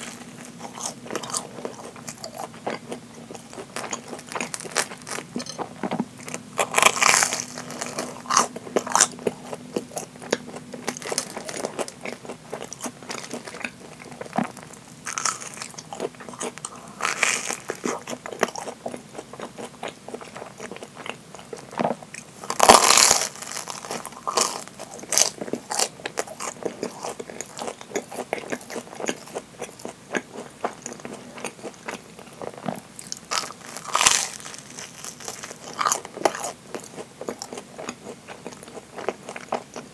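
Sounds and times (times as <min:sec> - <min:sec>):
chewing: 0:00.0 - 0:39.9
crisp fried crust crunching: 0:00.0 - 0:39.9.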